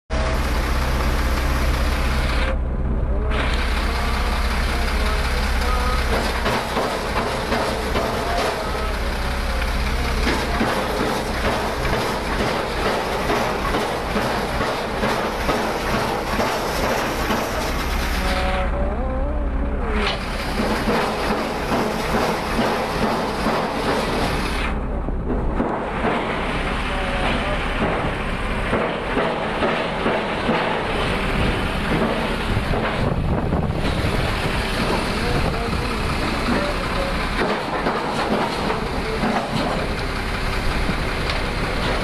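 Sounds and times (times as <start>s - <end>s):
crane engine running: 0.1s - 42.0s.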